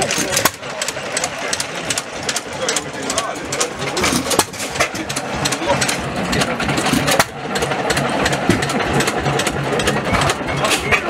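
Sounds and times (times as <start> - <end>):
stationary engines clattering: 0.0 - 11.0.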